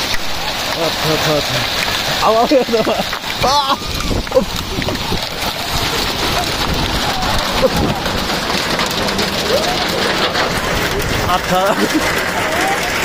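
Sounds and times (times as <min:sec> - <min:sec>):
hail and rain pelting: 0:00.0 - 0:13.0
faint voices: 0:00.6 - 0:13.0.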